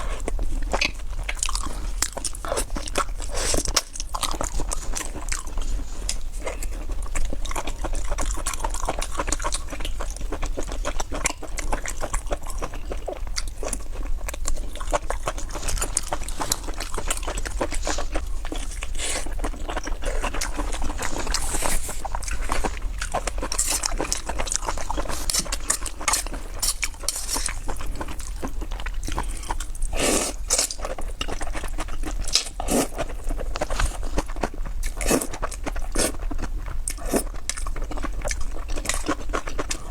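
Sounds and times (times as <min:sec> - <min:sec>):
chewing noodles: 0:00.0 - 0:39.9.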